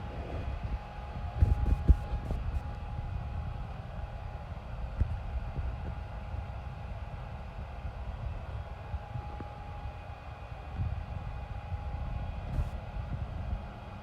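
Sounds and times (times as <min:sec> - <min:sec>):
mid-pitched whine: 0:00.0 - 0:14.0.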